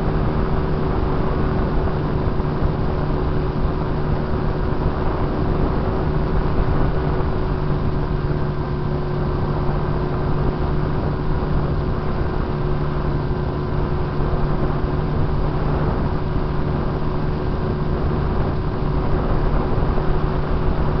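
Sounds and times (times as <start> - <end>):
rushing airflow: 0.0 - 21.0.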